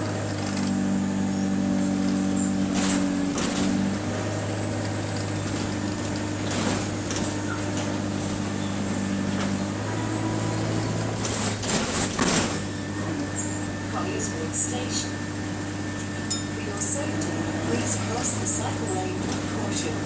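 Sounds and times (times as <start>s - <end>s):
bus diesel engine drone: 0.0s - 20.0s.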